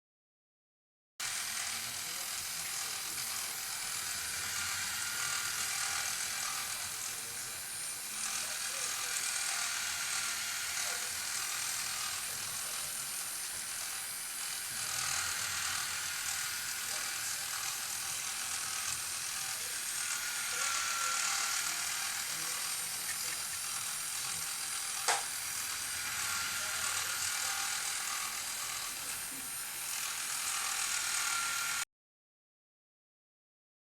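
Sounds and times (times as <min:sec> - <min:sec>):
toy motor whirring and clicking: 0:01.2 - 0:31.9.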